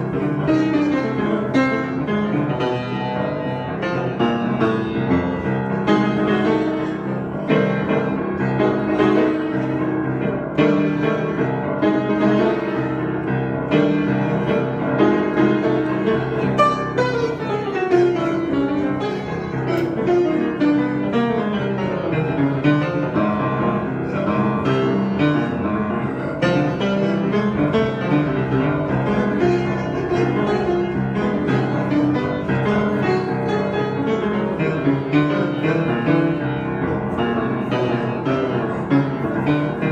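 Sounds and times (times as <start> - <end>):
piano improvisation: 0.0 - 39.9.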